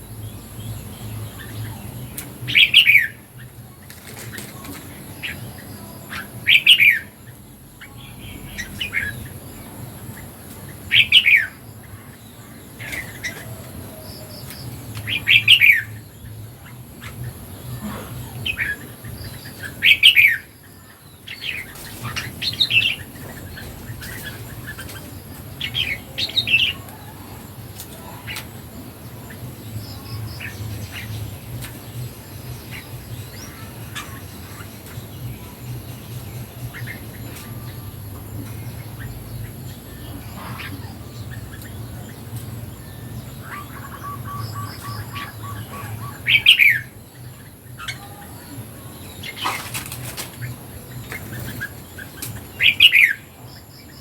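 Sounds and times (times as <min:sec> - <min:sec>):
bird chirping calls: 0:00.0 - 0:54.0.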